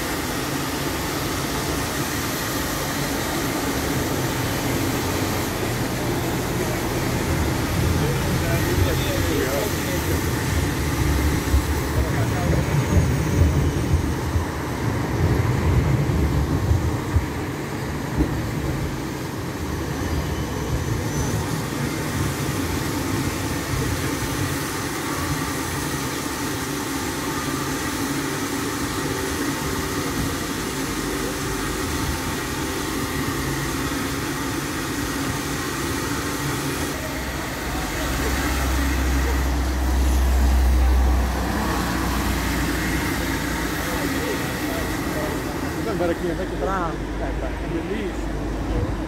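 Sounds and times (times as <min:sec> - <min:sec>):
city street noise: 0:00.0 - 0:49.0
tram rumbling past: 0:00.0 - 0:49.0.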